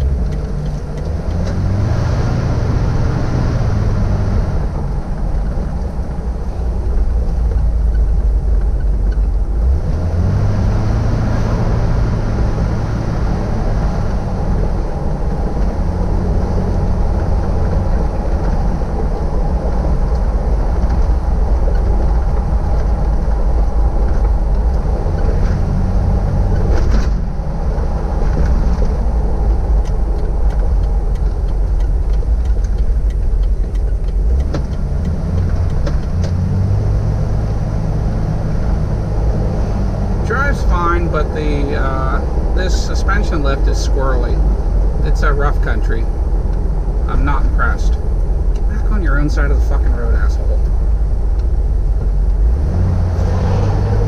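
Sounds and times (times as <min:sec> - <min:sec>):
car engine running: 0:00.0 - 0:54.0
road noise: 0:00.0 - 0:54.0.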